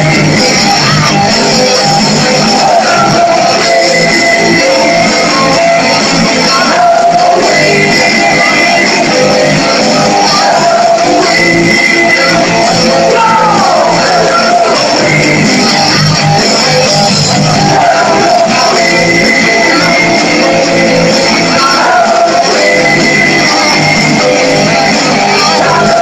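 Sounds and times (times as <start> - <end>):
loud guitar rock music: 0.0 - 26.0.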